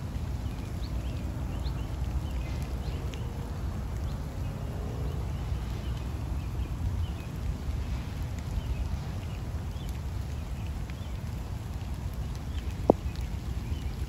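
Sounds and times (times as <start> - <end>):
light rain hiss: 0.0 - 14.0.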